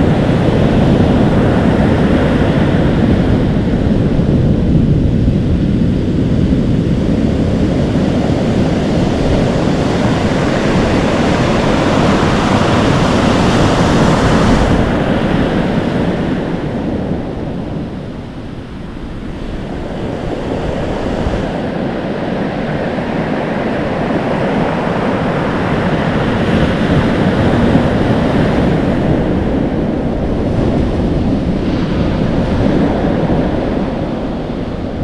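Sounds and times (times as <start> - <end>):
surf washing on shore: 0.0 - 35.0
wind buffeting microphone: 0.0 - 35.0.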